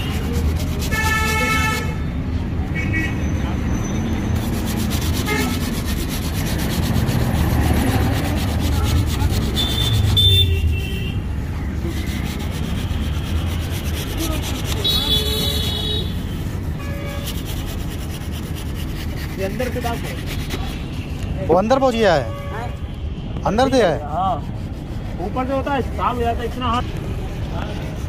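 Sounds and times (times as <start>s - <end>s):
rubbing on a surface: 0.0s - 2.0s, 4.3s - 10.6s, 11.4s - 22.8s, 23.5s - 28.0s
low rumble of street traffic: 0.0s - 28.0s.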